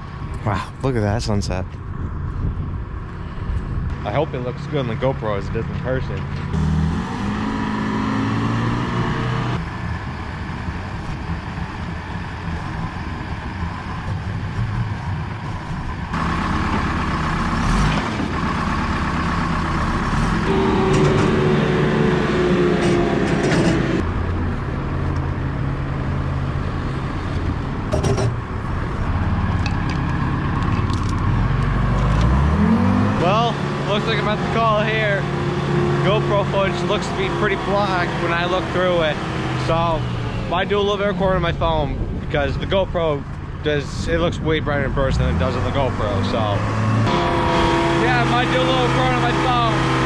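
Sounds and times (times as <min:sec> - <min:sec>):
loader engine running: 0:01.8 - 0:50.0.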